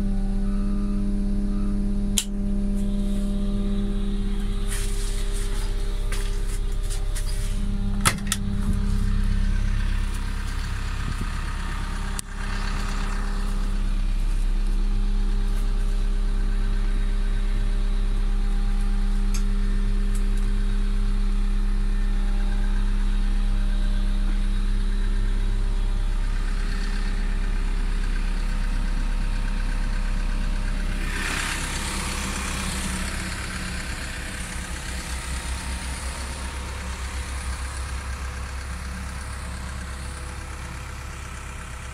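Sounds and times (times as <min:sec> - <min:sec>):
diesel roller engine idling: 0:00.0 - 0:41.9.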